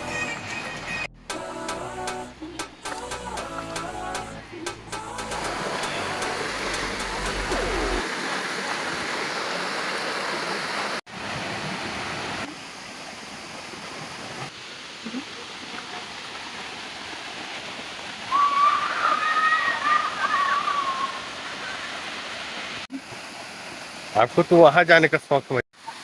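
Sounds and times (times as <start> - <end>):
waterfall rushing: 0.0 - 23.2.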